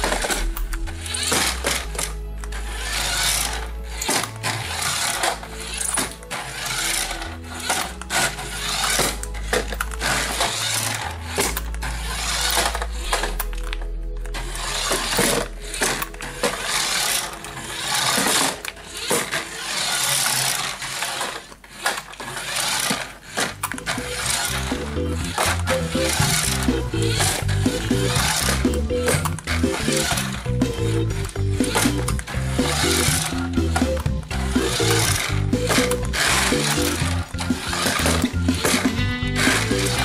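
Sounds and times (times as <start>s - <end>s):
music: 0.0s - 40.0s
toy car motor whirring: 0.0s - 40.0s.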